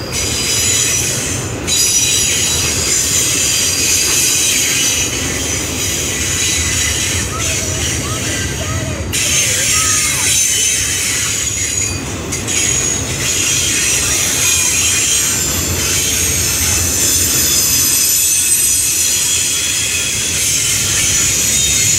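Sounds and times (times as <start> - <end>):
high-pitched wheel squeal: 0.0 - 21.9
steel train wheels rumbling: 0.0 - 21.9.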